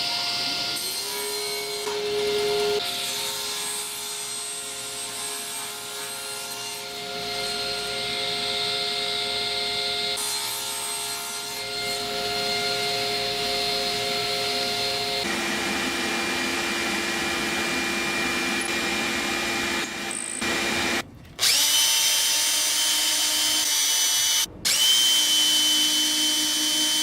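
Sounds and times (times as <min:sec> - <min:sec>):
power saw cutting wood: 0:00.0 - 0:27.0.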